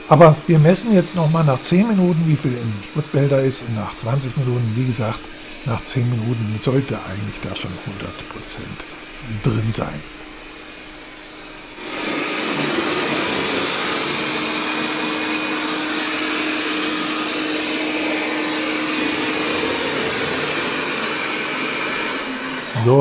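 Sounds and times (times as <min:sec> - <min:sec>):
robot vacuum whooshing hum: 0:00.0 - 0:23.0.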